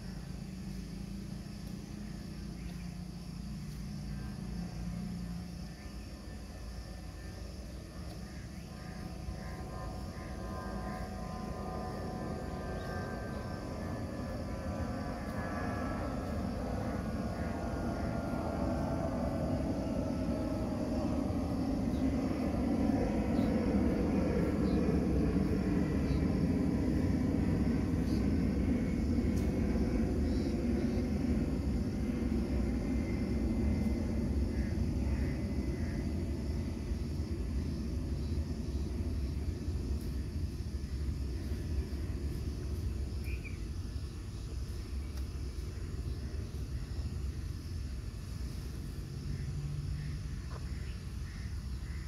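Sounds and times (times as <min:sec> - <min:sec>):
distant engine whine: 0:00.0 - 0:52.0
low engine rumble: 0:00.0 - 0:52.0.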